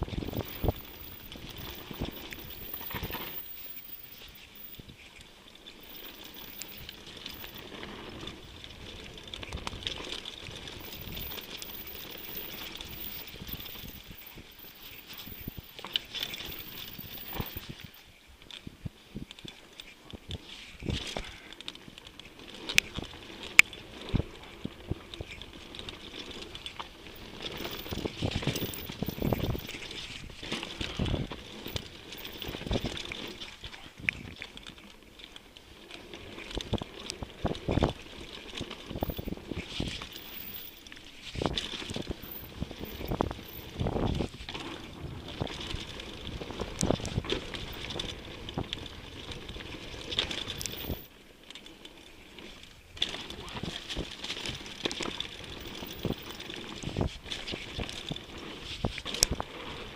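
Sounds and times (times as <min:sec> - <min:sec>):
wind noise on microphone: 0:00.0 - 0:05.1, 0:06.1 - 0:21.4, 0:26.4 - 0:34.5, 0:36.3 - 0:51.1, 0:53.0 - 0:59.9
bike knocking and rattling: 0:00.0 - 0:59.9
bike tyres crunching on dirt: 0:00.0 - 0:59.9.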